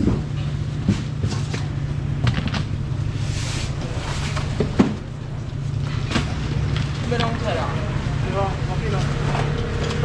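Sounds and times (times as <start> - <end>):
market street hum: 0.0 - 10.0.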